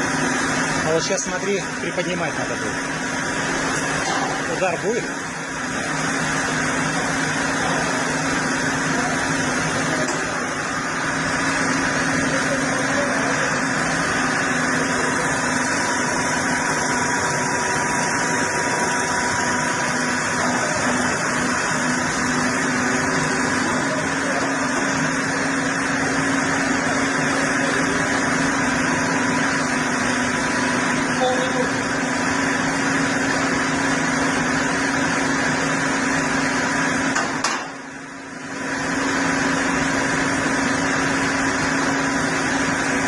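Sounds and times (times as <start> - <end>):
machine engine humming: 0.0 - 43.0.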